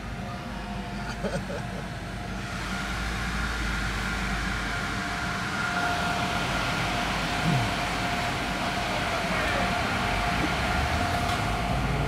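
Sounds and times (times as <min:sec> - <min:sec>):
car engine idling: 0:00.0 - 0:12.0
faint steady whine: 0:00.0 - 0:12.0.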